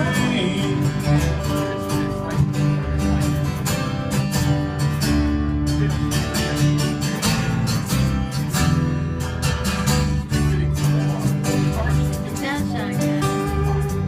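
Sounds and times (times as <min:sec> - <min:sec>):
low bass line: 0:00.0 - 0:14.0
strummed guitar chords: 0:00.0 - 0:14.0.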